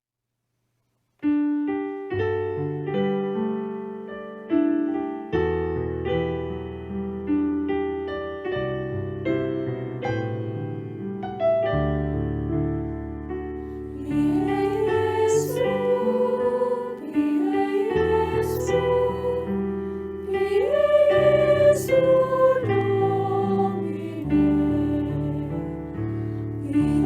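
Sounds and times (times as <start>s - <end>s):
piano playing: 1.2s - 27.0s.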